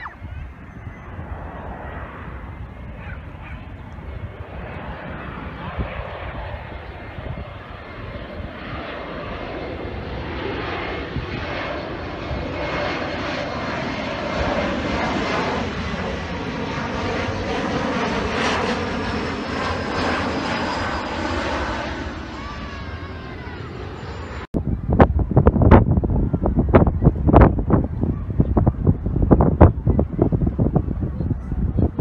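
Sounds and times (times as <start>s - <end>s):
high jet engine whine: 0.0s - 32.0s
jet passing overhead: 0.0s - 32.0s.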